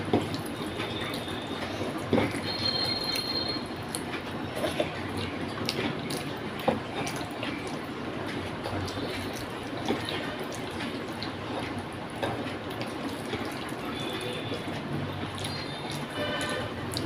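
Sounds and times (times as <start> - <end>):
wet chewing and mouth sounds: 0.0 - 17.0.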